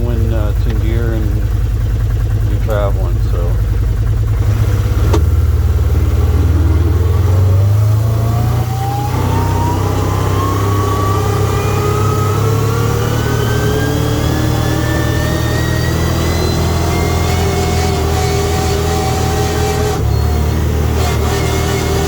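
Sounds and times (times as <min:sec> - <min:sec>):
vehicle whine rising in pitch: 0:00.0 - 0:22.0.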